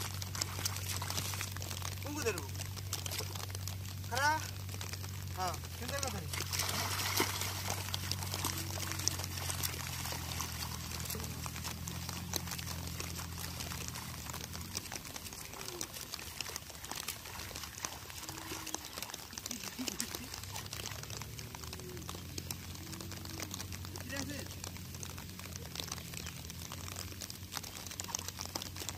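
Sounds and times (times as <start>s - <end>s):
muddy water splashing: 0.0s - 28.9s.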